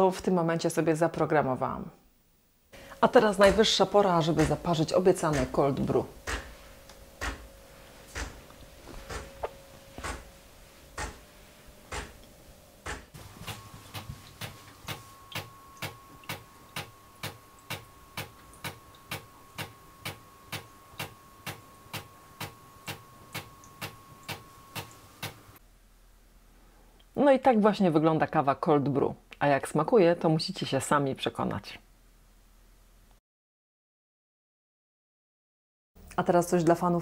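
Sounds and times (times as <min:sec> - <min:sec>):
faint machine hum: 0:00.2 - 0:33.1.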